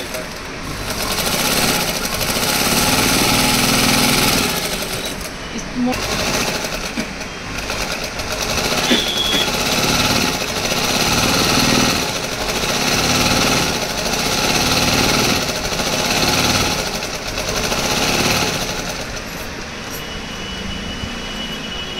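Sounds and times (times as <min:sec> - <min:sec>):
sewing machine running fast: 0:00.0 - 0:19.7.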